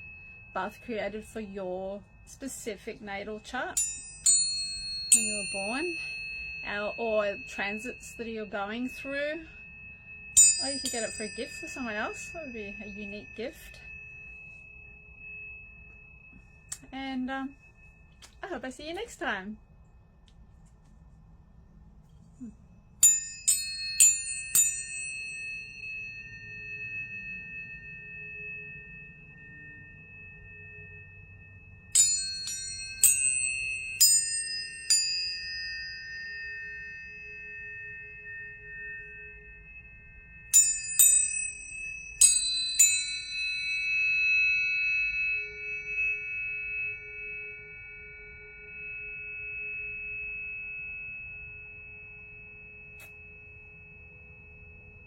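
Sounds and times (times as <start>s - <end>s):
tuning forks struck and ringing: 0.0s - 55.0s.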